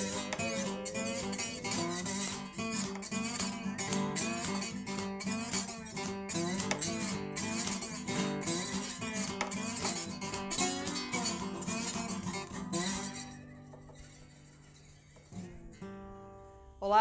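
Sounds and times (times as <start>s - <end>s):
strummed blues guitar: 0.0s - 16.8s.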